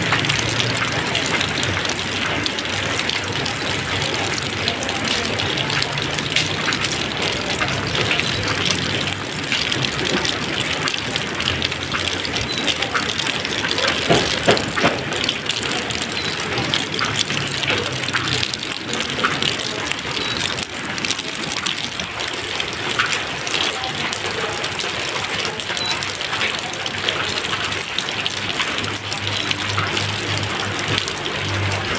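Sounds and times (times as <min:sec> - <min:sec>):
raindrops splashing: 0:00.0 - 0:31.9.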